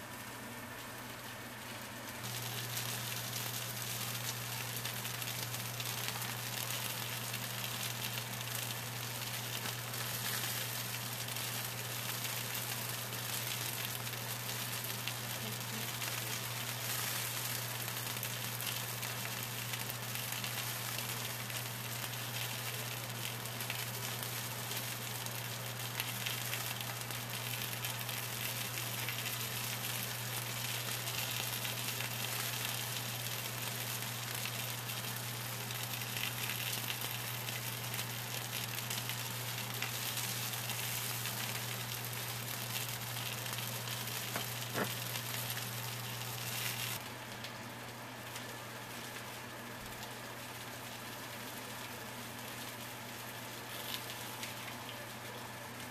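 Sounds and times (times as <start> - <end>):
steady low hum: 0.0 - 55.9
food sizzling in a pan: 0.8 - 47.1, 48.2 - 55.9.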